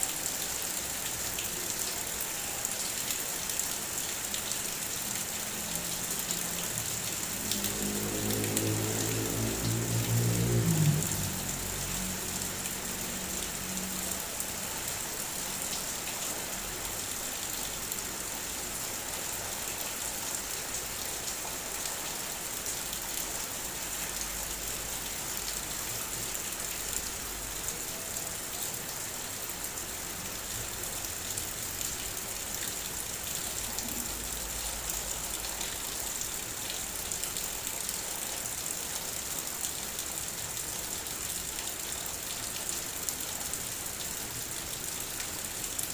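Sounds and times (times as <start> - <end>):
rain pattering on car: 0.1 - 45.9.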